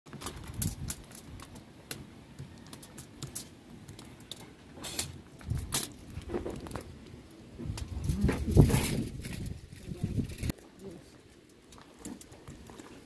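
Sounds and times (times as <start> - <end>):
aluminium foil crinkling: 0.1 - 13.0.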